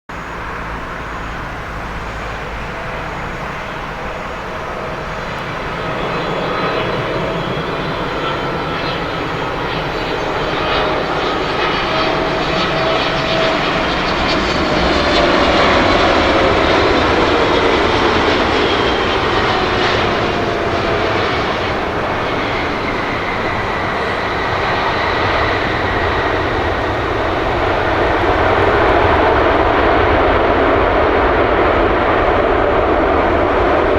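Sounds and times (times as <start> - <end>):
whining jet engine tones: 0.1 - 30.0
jet airliner passing: 0.1 - 33.9.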